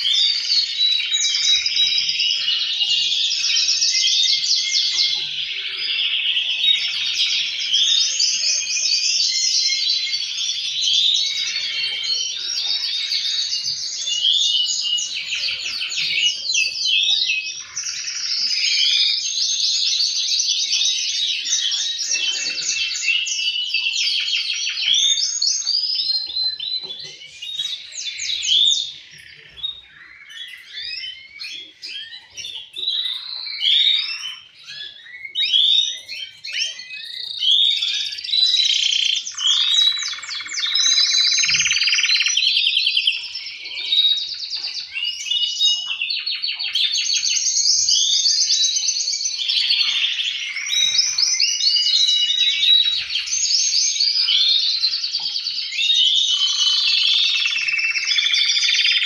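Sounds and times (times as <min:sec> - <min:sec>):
canaries singing in trills: 0:00.0 - 0:59.0.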